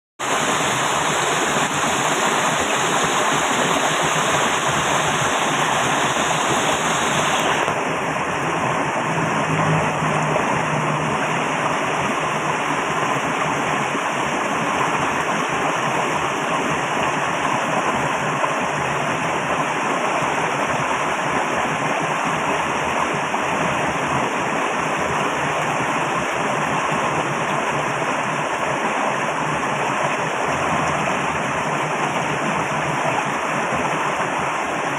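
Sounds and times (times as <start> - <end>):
water rushing: 0.2 - 34.9.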